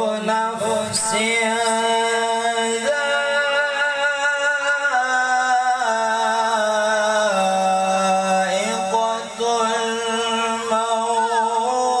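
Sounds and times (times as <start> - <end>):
person reciting melodically: 0.0 - 12.0.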